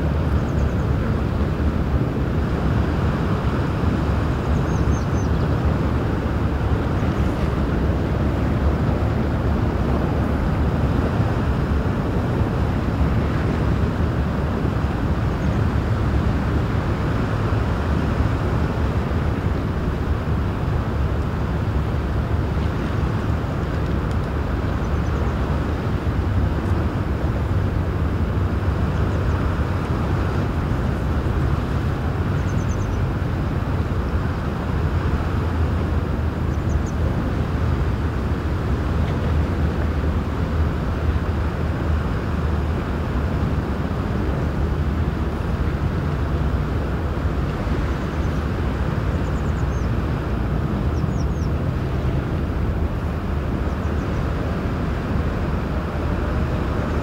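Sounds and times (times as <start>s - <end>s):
ship engines rumbling: 5.6s - 57.0s.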